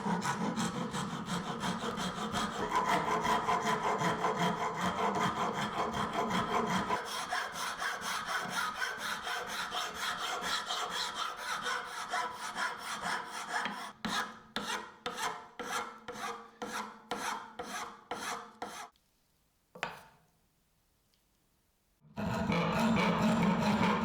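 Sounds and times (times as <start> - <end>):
filing and sanding wood: 0.0 - 18.9, 22.2 - 24.0.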